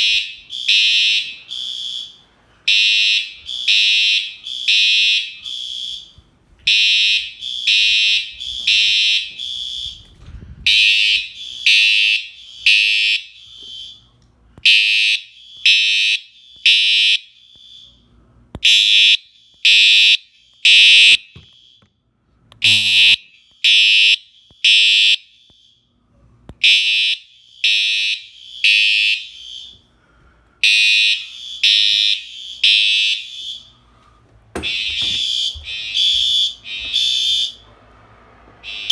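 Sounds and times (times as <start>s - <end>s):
fire alarm horn beeps: 0.0s - 22.0s, 22.6s - 25.9s, 26.6s - 29.8s, 30.6s - 34.0s, 34.6s - 37.7s, 38.6s - 38.9s.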